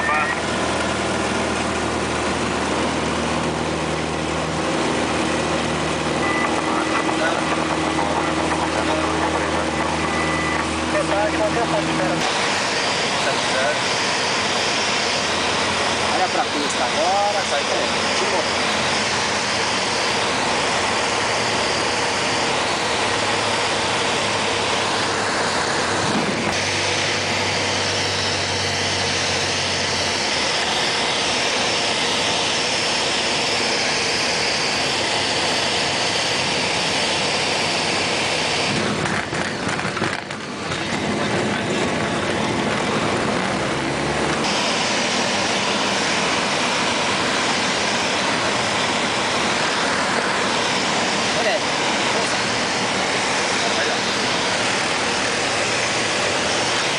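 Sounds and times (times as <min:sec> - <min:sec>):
airplane engine and propeller drone: 0:00.0 - 0:56.9.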